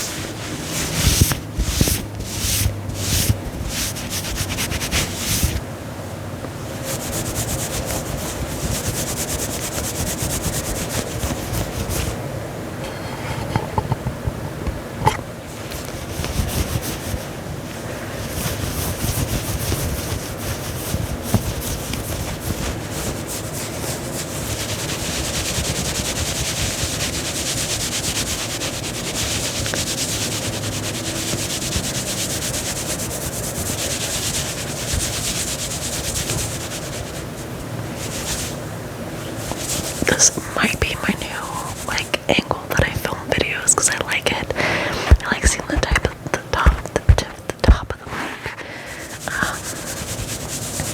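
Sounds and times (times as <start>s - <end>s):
fingernails scratching fabric: 0.0s - 5.6s, 6.8s - 12.2s, 12.9s - 17.5s, 18.2s - 38.6s, 39.2s - 42.2s, 45.1s - 50.9s.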